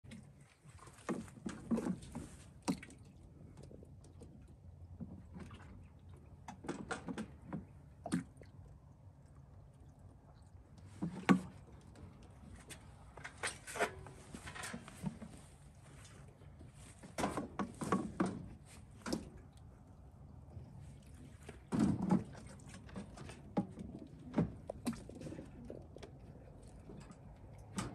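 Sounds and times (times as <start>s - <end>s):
low steady hum: 0.1s - 27.9s.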